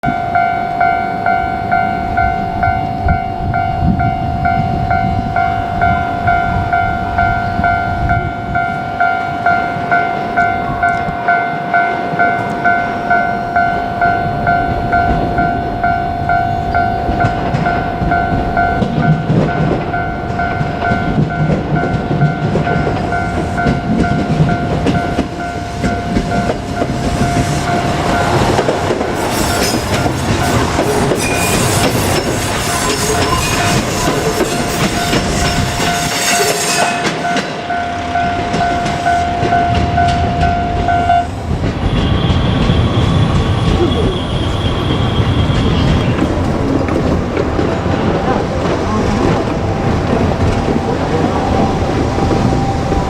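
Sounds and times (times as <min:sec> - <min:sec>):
level crossing warning bell: 0:00.0 - 0:46.6, 0:47.3 - 0:53.0
diesel railcar rumble: 0:00.0 - 0:53.0
train wheel clatter: 0:10.0 - 0:53.0.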